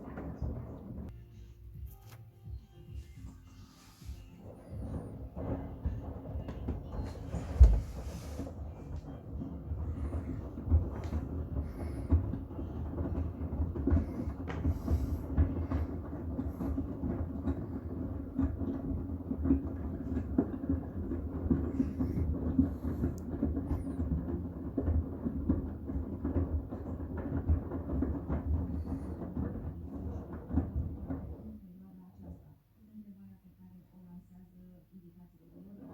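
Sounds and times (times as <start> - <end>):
washing machine drum rumble: 0.0 - 1.2, 2.9 - 32.5.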